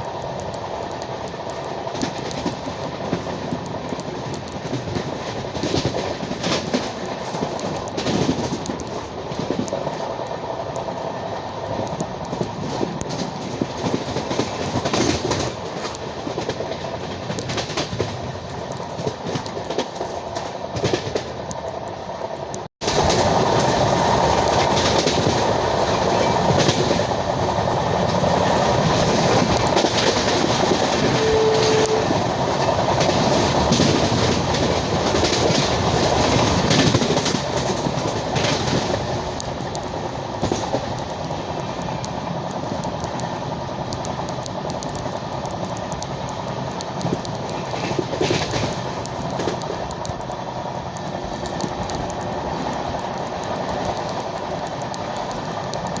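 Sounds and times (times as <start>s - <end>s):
train wheels rumbling on rails: 0.0s - 56.0s
wheels clicking over rail joints: 0.0s - 56.0s.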